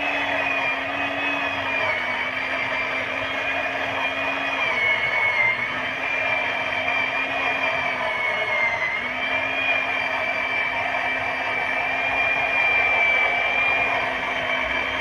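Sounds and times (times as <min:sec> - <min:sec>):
electric chainsaw cutting wood: 0:00.0 - 0:15.0.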